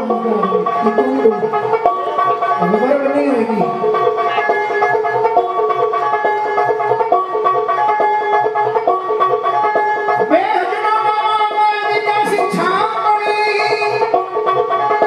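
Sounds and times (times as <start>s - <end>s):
live band music: 0.0s - 15.0s
plucked-string melody: 0.0s - 15.0s.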